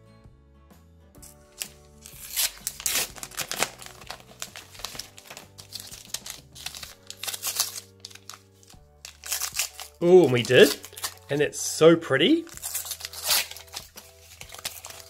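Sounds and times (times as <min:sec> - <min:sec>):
wrapper crinkling and tearing: 0:01.2 - 0:11.4, 0:12.4 - 0:15.0.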